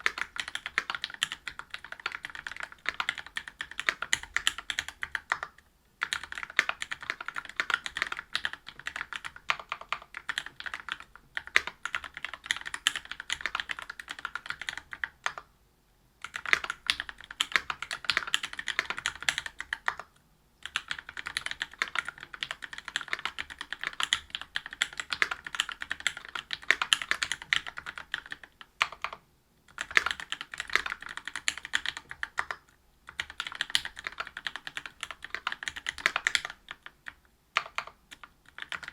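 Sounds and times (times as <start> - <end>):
typing on mechanical keyboard: 0.0 - 15.5, 16.2 - 38.9.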